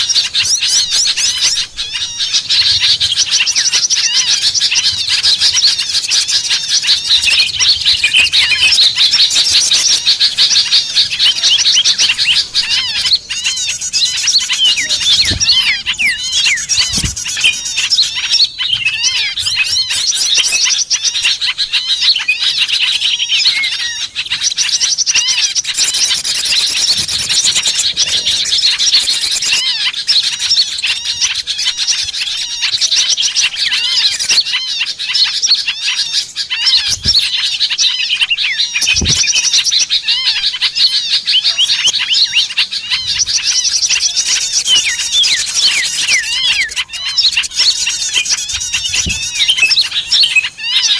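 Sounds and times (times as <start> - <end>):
small songbirds chirping: 0.0 - 50.9.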